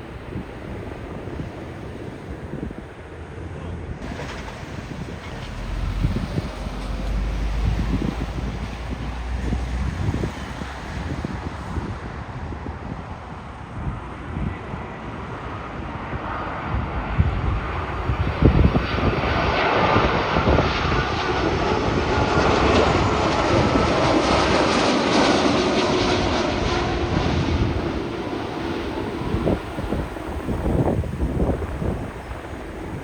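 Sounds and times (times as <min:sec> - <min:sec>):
jet airliner passing: 0:00.0 - 0:33.0
wind buffeting microphone: 0:00.0 - 0:33.0.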